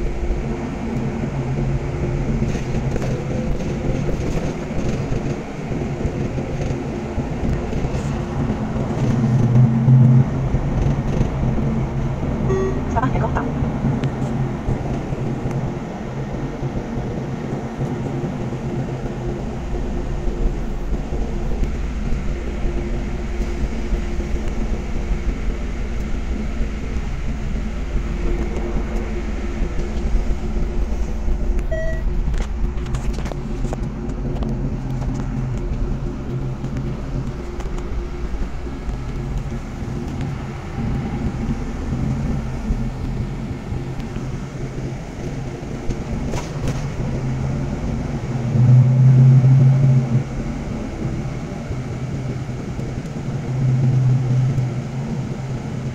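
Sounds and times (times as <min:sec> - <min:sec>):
bus engine and road rumble: 0:00.0 - 0:55.9
low hum: 0:00.0 - 0:55.9.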